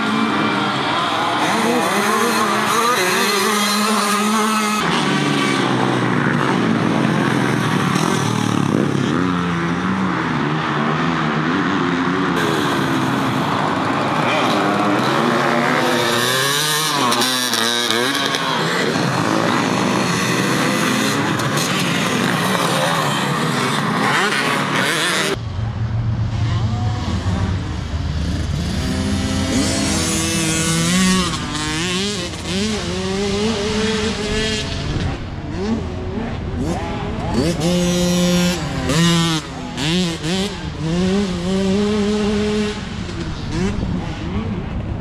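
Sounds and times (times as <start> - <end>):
motocross bikes revving: 0.0 - 25.4, 26.4 - 45.0.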